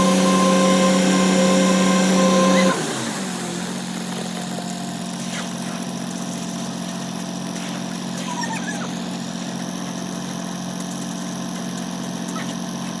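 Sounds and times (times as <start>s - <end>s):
machine engine humming: 0.0s - 13.0s.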